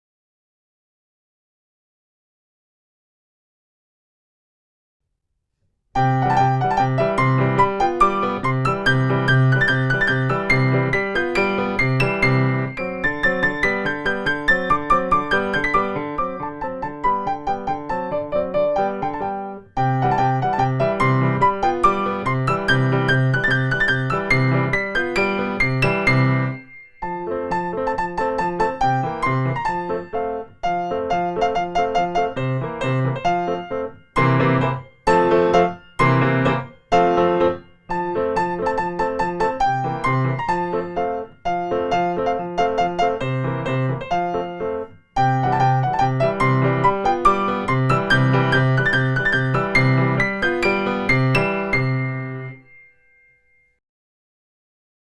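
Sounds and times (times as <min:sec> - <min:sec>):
solo piano piece: 0:06.0 - 0:53.7.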